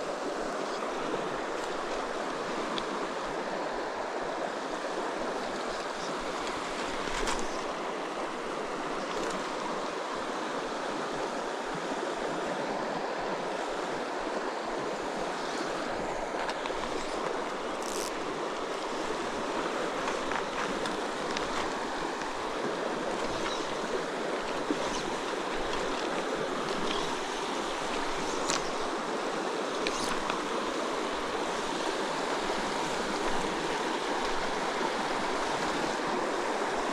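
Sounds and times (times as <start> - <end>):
flowing river water: 0.0 - 36.9.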